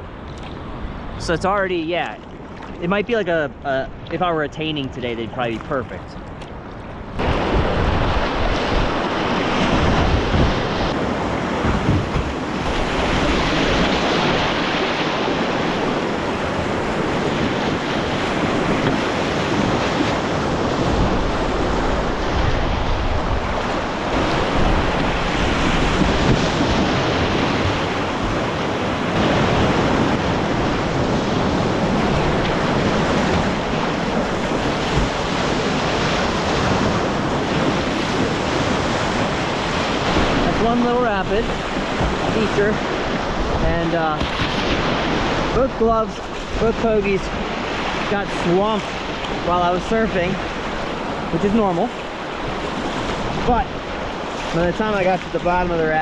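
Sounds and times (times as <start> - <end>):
wind buffeting microphone: 0.0 - 56.0
whitewater rushing: 7.2 - 56.0.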